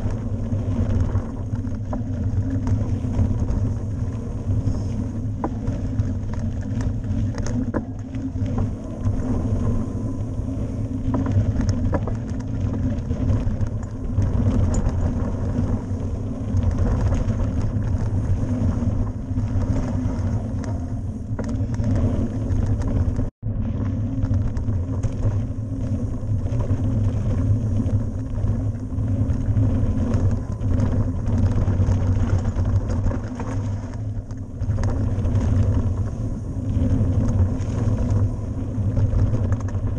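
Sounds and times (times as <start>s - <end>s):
bike rattling and clicking: 0.0s - 39.9s
tyres rumbling over dirt: 0.0s - 39.9s
wind on microphone: 0.0s - 39.9s.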